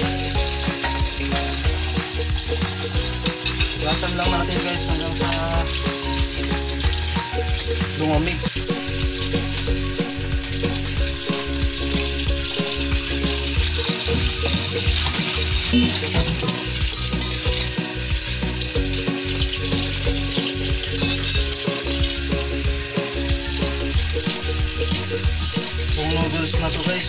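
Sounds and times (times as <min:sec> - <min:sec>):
background music: 0:00.0 - 0:27.0.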